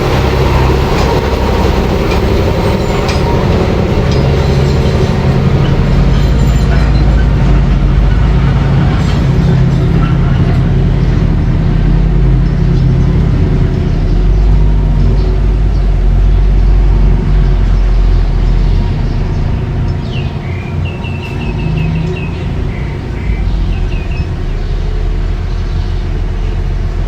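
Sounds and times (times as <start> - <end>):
bulldozer engine rumbling: 0.0 - 27.0.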